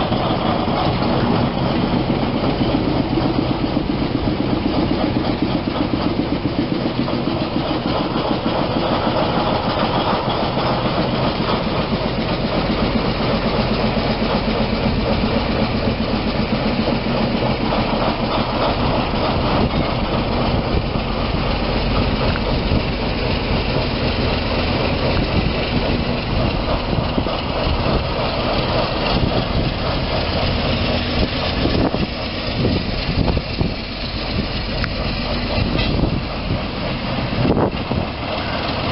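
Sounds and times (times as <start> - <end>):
locomotive engine throbbing: 0.0 - 38.9.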